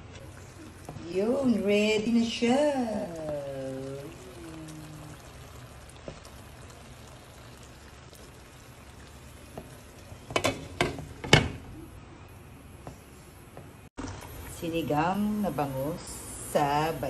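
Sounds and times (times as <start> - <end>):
pan simmering bubbling: 0.0 - 12.2, 13.6 - 17.0.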